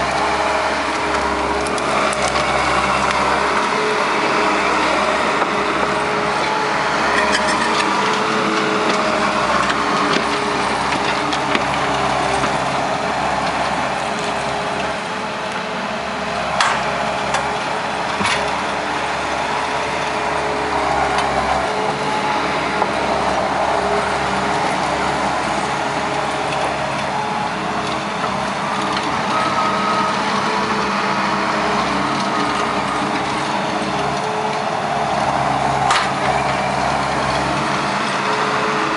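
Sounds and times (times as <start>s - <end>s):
diesel engine under load: 0.0s - 38.9s.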